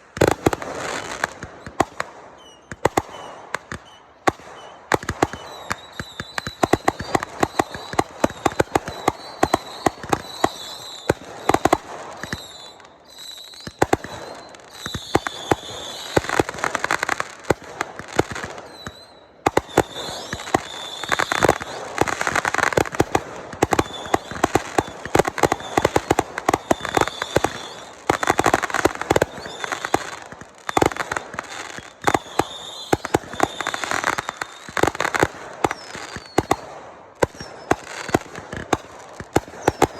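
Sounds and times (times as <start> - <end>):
fireworks bangs and pops: 0.0 - 39.9
fireworks crackling: 0.0 - 39.9.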